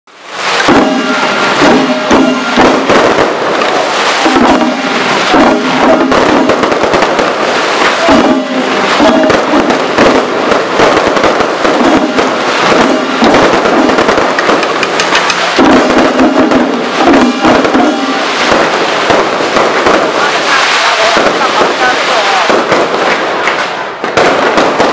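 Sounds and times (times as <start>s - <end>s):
fireworks bangs and crackles: 0.1s - 24.9s.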